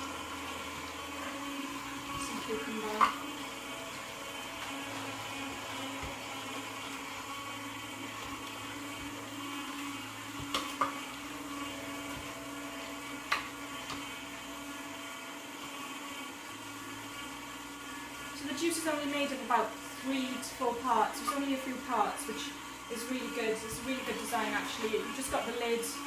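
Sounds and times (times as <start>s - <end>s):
juicer motor humming: 0.0s - 26.0s.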